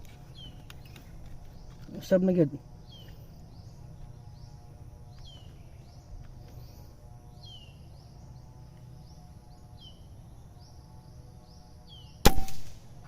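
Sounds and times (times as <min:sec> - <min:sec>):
wild birds calling: 0:00.0 - 0:12.4
low outdoor rumble: 0:00.0 - 0:13.0.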